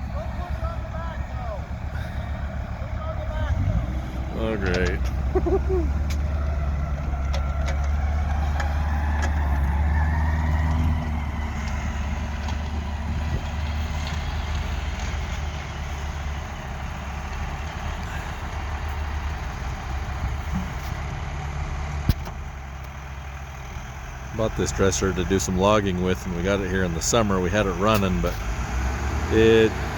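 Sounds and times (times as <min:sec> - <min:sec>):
heavy diesel engines working: 0:00.0 - 0:29.9.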